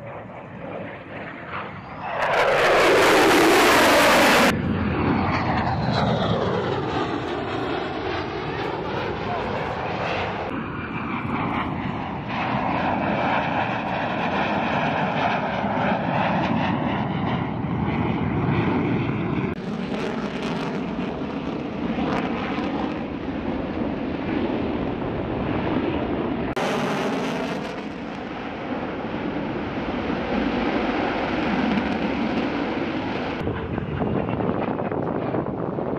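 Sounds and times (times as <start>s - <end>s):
jet engine roaring: 0.0s - 35.9s.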